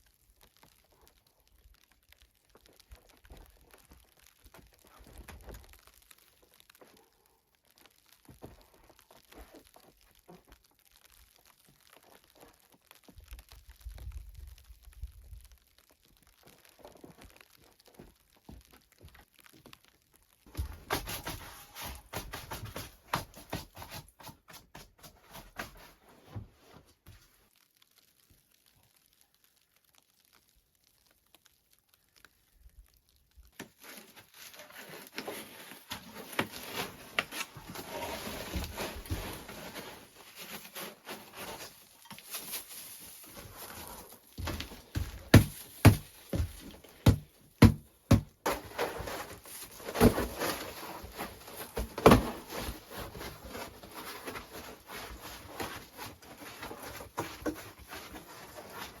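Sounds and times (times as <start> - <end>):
crinkling and rustling: 0.0 - 59.0.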